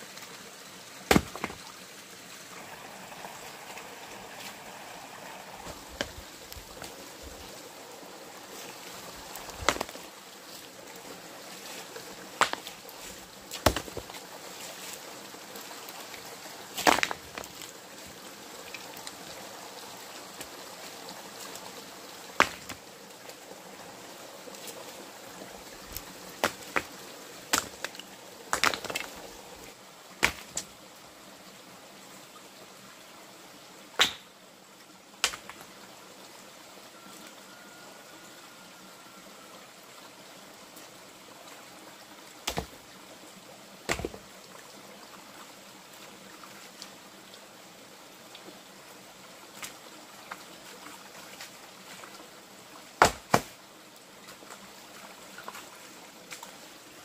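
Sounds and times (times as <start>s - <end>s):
faint steady hiss: 0.0s - 57.0s.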